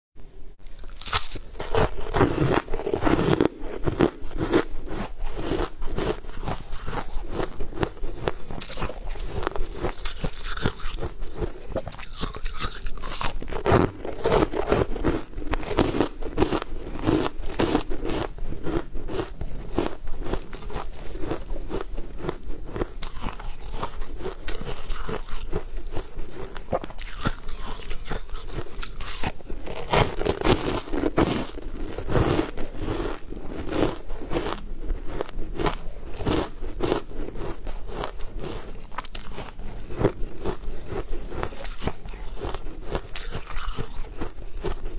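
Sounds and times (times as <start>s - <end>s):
biting and chewing crunches: 0.6s - 44.9s.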